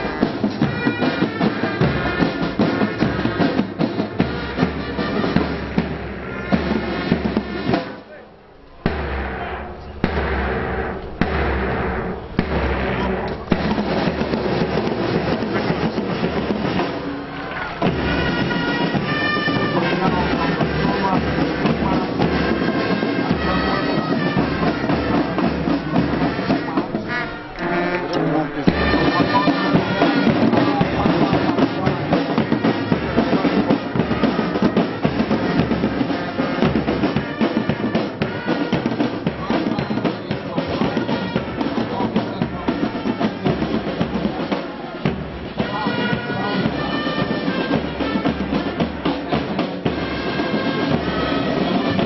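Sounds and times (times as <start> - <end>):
heavy drum beats: 0.0 - 52.0
marching band playing: 0.0 - 52.0
rattling drumming: 0.0 - 52.0.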